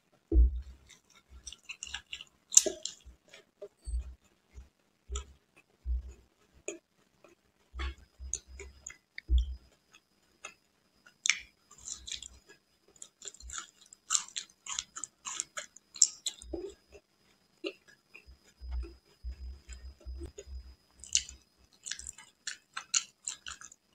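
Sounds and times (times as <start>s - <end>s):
close chewing with mouth clicks: 0.7s - 4.2s, 5.1s - 9.6s, 10.4s - 23.9s.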